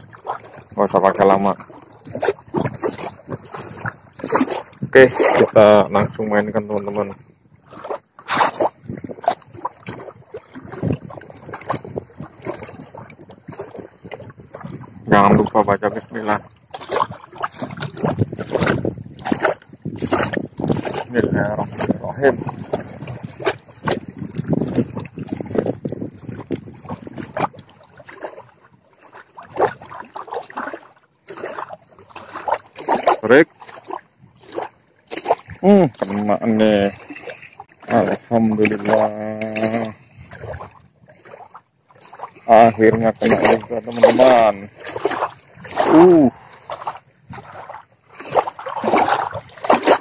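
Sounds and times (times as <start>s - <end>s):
wind on microphone: 0.0s - 30.0s, 32.9s - 50.0s
small waves lapping: 0.0s - 50.0s
water splashing in plastic bucket: 0.0s - 50.0s.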